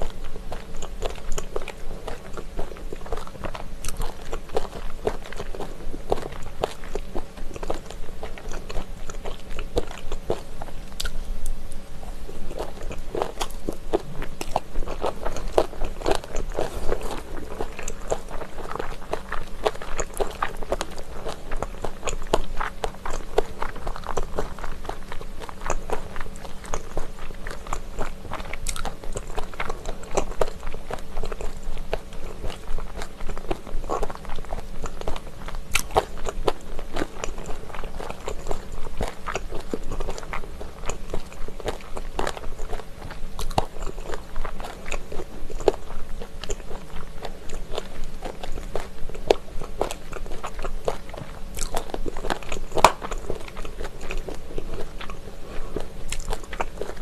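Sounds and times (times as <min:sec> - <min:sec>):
crisp chewing crunches: 0:00.0 - 0:57.0.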